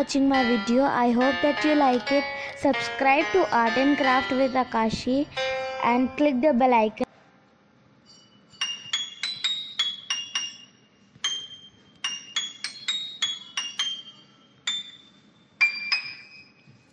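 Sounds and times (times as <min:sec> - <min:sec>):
bell-like chiming melody: 0:00.2 - 0:06.4, 0:08.1 - 0:16.7.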